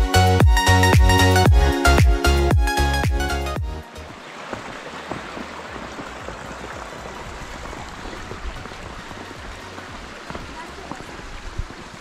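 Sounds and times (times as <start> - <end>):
mountain stream rushing: 0.1 - 12.0.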